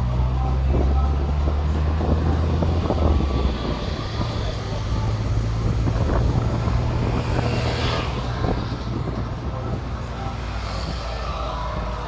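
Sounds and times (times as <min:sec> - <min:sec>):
engine drone: 0:00.0 - 0:12.0
road noise: 0:00.0 - 0:12.0.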